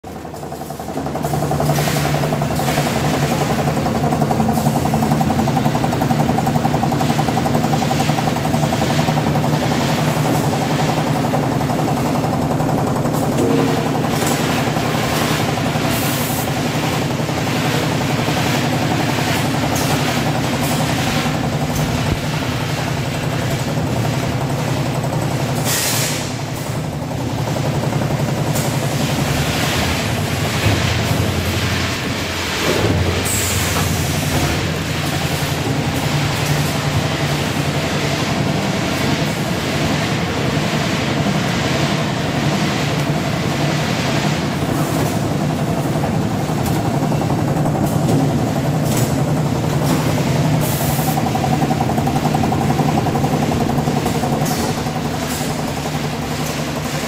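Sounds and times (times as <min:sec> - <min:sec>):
machine clatter: 0:00.0 - 0:57.0
machine hum: 0:00.0 - 0:57.0.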